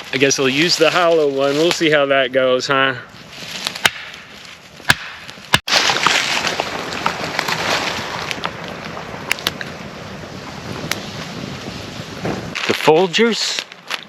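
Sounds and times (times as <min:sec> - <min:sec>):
campfire crackling and popping: 0:00.0 - 0:02.2, 0:03.0 - 0:14.0.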